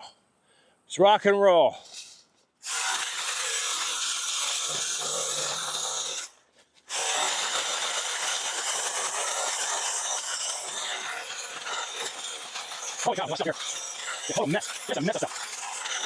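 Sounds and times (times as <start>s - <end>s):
mini chainsaw cutting brush: 1.8s - 16.0s.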